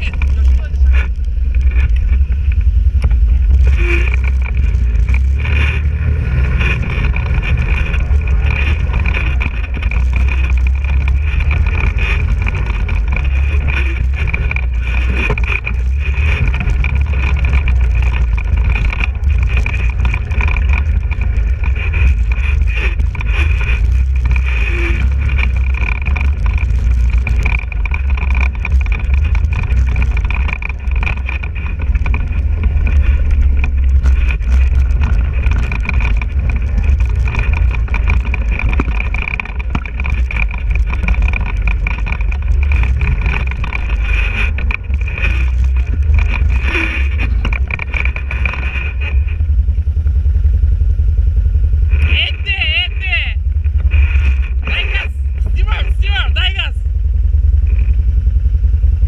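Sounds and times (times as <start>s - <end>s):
wind buffeting microphone: 0.0s - 52.2s
quad engine running: 0.0s - 59.0s.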